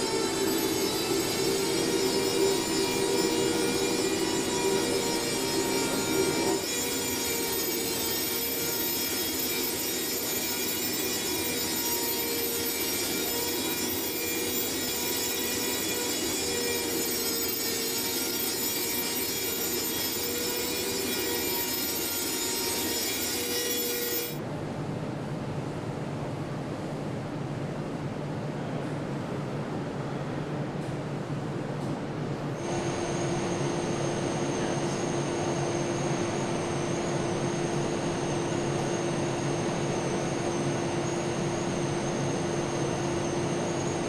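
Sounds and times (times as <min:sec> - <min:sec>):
factory machinery grinding and whining: 0:00.0 - 0:24.4, 0:32.6 - 0:44.0.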